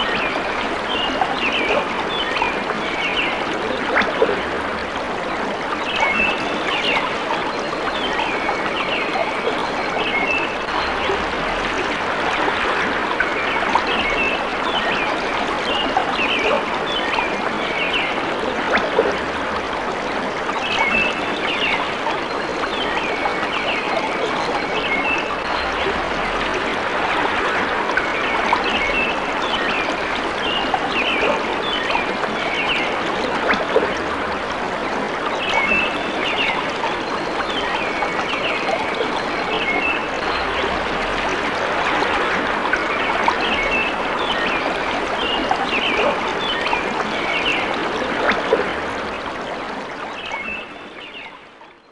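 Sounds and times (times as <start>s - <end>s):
stream running water: 0.0s - 51.9s.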